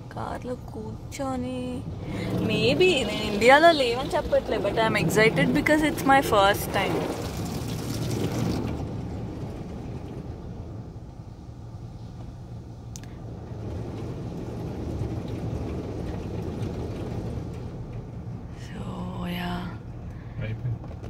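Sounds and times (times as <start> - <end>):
car wash machinery rumbling: 0.0 - 21.0.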